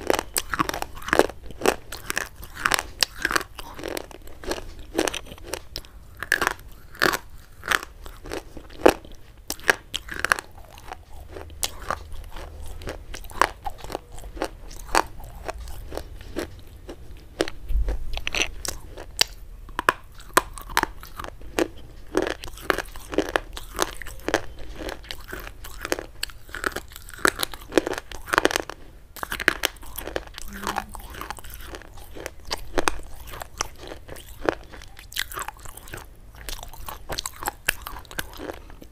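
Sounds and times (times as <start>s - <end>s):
chalk sticks crunching when chewed: 0.0s - 38.9s.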